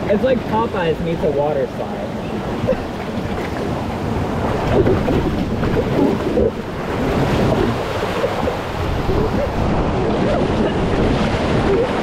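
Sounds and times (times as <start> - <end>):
water rushing and splashing: 0.0 - 12.0
wind buffeting microphone: 1.4 - 12.0.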